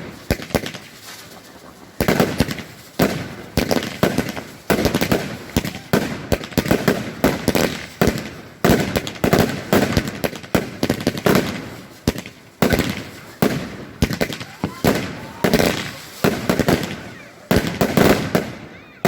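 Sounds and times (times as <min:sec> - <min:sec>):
fireworks bangs and cracks: 0:00.0 - 0:19.0
loud firework blasts: 0:00.0 - 0:19.0.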